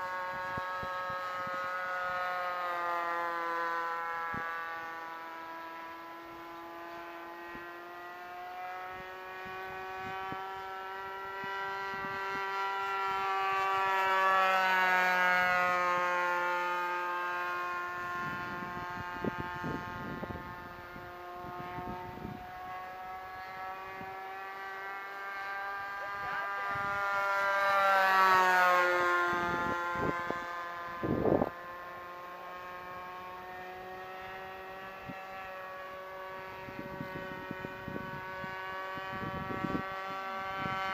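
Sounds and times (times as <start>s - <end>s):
model plane engine droning: 0.0s - 40.9s.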